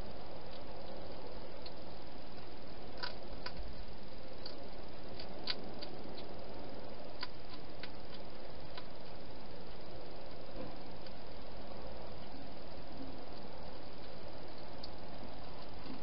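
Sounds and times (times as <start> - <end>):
steady hiss: 0.0 - 16.0
hedgehog crunching food: 0.1 - 16.0.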